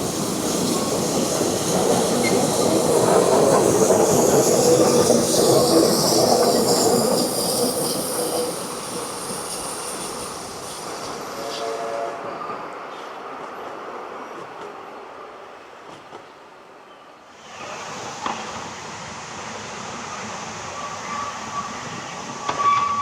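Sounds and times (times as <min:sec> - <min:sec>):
wheels squealing on rails: 0:00.0 - 0:13.6, 0:17.3 - 0:23.0
train running past: 0:00.0 - 0:23.0.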